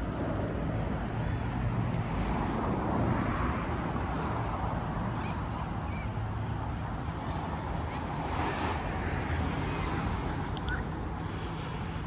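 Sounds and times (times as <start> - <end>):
high-pitched insect chorus: 0.0 - 12.0
road traffic noise: 0.0 - 12.0.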